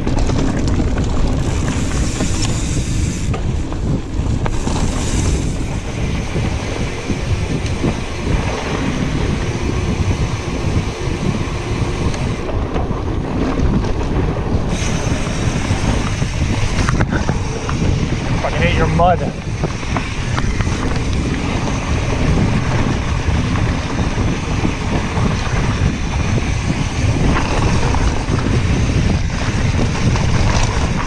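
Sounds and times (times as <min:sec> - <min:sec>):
bike rattling over dirt trail: 0:00.0 - 0:31.0
wind buffeting microphone: 0:00.0 - 0:31.0.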